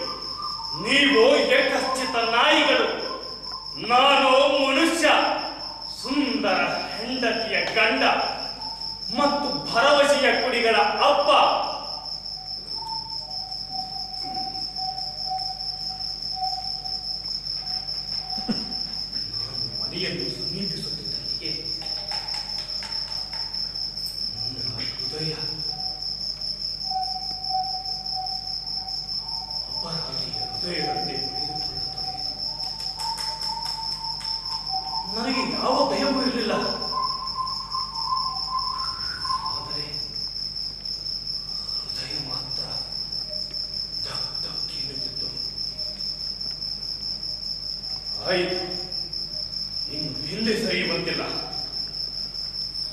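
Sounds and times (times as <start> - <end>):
crickets chirring: 0.0 - 52.9.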